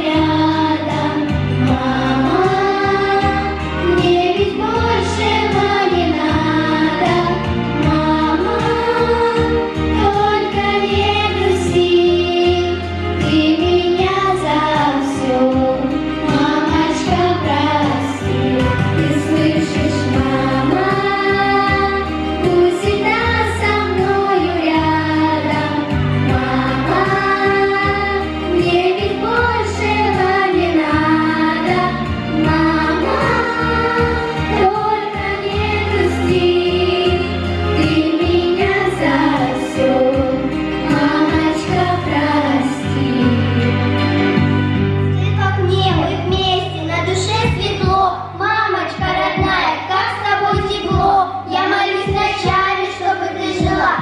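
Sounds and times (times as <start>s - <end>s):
girls choir singing: 0.0s - 44.5s, 47.8s - 54.0s
instrumental accompaniment with bass: 0.0s - 54.0s.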